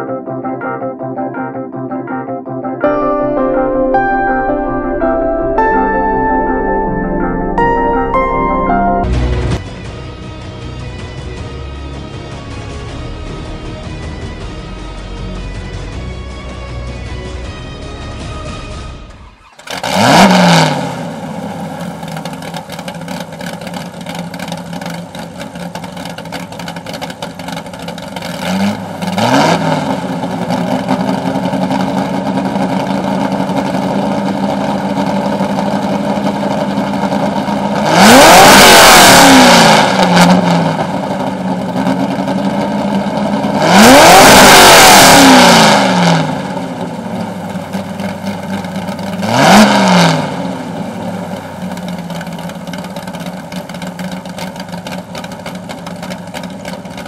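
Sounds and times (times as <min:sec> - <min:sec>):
engine idling and revving: 0:09.0 - 0:57.0.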